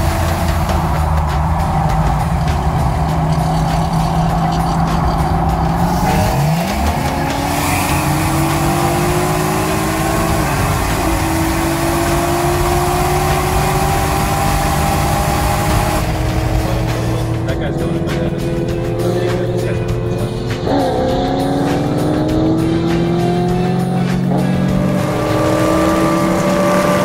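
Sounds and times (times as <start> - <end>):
car engine accelerating hard: 0.0 - 27.0
wind and road rush: 0.0 - 27.0.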